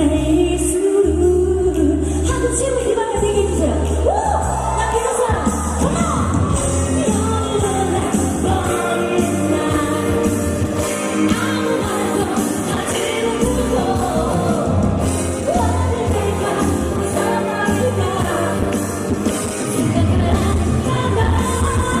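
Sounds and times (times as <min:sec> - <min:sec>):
loud pop backing track: 0:00.0 - 0:22.0
woman singing into a microphone: 0:00.0 - 0:22.0.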